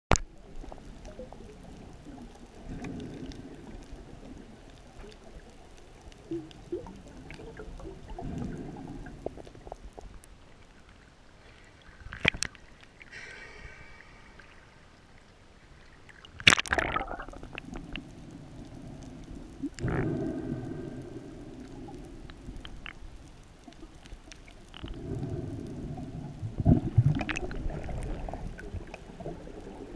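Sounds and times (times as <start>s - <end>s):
underwater swishes and gurgles: 0.1s - 29.9s.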